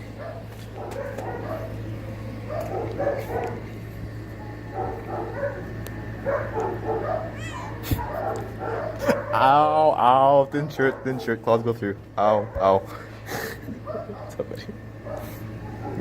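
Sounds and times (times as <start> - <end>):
distant dogs barking: 0.0 - 16.0
steady low hum: 0.0 - 16.0.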